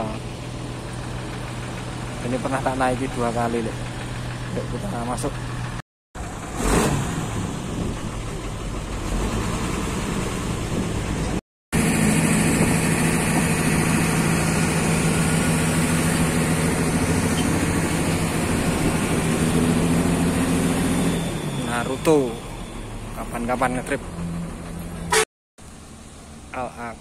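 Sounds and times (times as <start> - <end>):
bus diesel engine idling: 0.0 - 6.6, 7.4 - 25.2.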